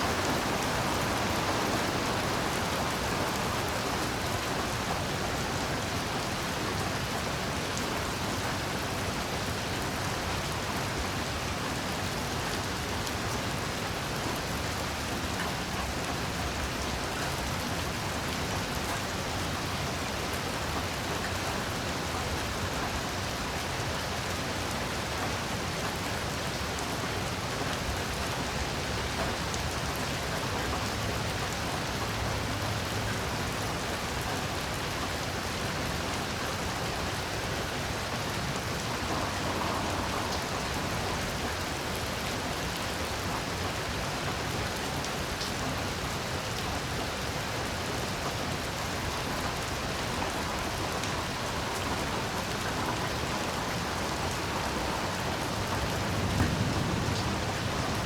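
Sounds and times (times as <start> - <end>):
heavy rain on ground and leaves: 0.0 - 58.0.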